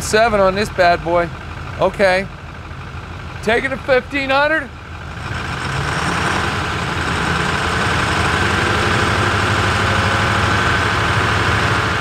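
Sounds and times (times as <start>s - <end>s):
diesel engine revving up: 0.0s - 12.0s.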